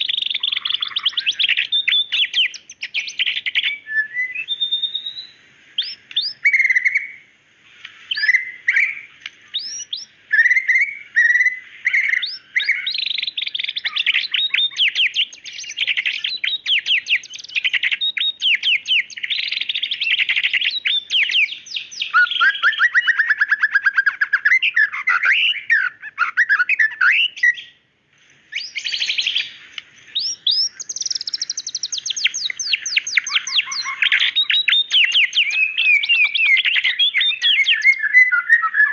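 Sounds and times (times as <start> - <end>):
songbird whistling and trilling: 0.0 - 7.3, 8.1 - 27.8, 28.5 - 38.9.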